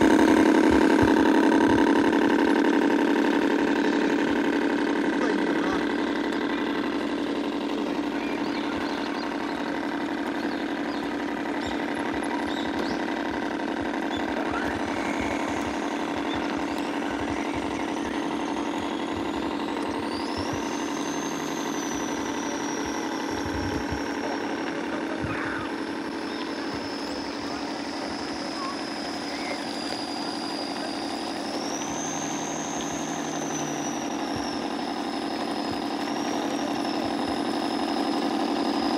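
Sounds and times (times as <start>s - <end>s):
high motor whine: 0.0s - 38.9s
model boat motor humming: 0.0s - 38.9s.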